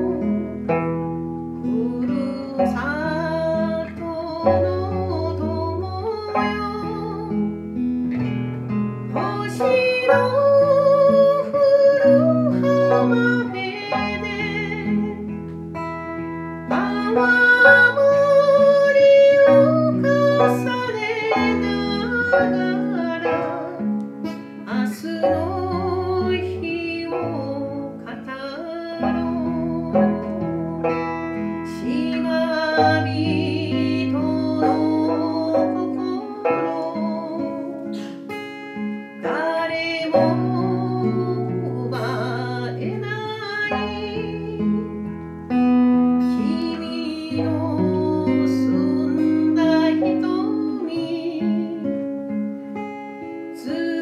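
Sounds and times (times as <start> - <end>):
person singing: 0.0 - 0.7, 1.5 - 8.3, 9.1 - 15.5, 16.6 - 52.3, 53.2 - 54.0
acoustic guitar strumming: 0.0 - 54.0.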